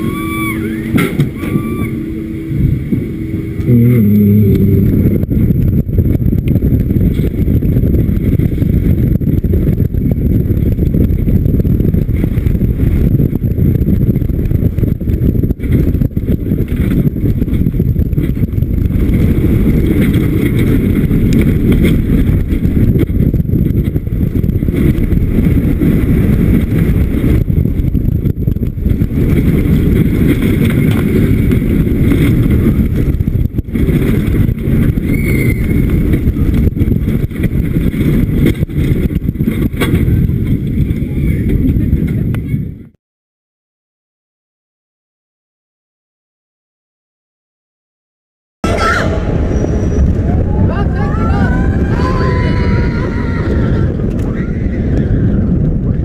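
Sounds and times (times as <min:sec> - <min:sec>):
roller coaster rumbling on track: 0:00.0 - 0:43.0, 0:48.6 - 0:56.0
wind buffeting microphone: 0:00.0 - 0:43.0, 0:48.6 - 0:56.0.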